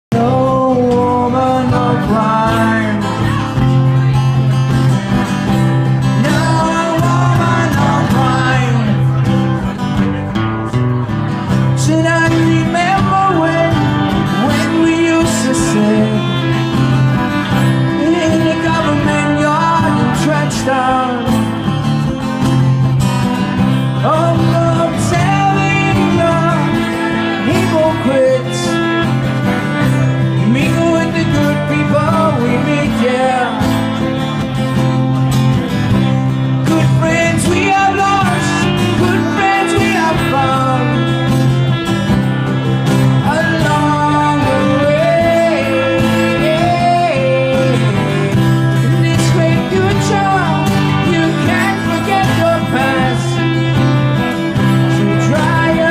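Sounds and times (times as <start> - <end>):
person singing: 0.1 - 4.6, 5.8 - 9.7, 11.6 - 22.4, 23.8 - 35.2, 36.0 - 55.9
held bass notes: 0.1 - 55.9
strummed guitar: 0.1 - 55.9.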